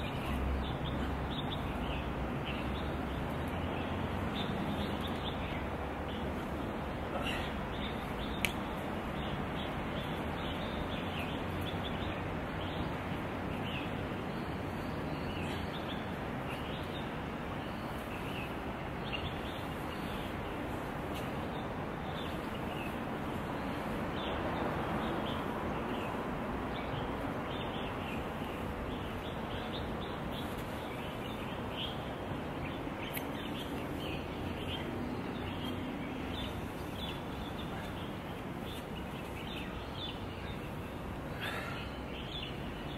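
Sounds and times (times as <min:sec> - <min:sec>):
steady background hiss and hum: 0:00.0 - 0:42.9.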